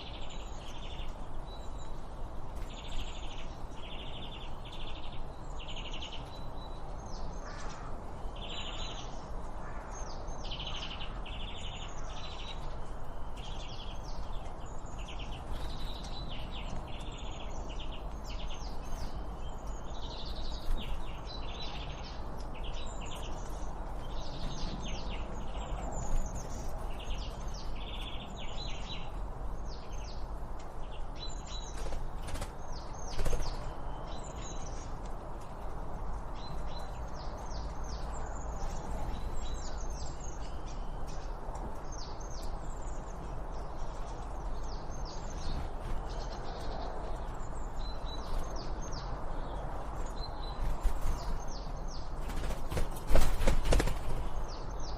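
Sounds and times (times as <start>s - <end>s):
outdoor background hiss: 0.0s - 54.9s
songbirds chirping: 0.0s - 54.9s.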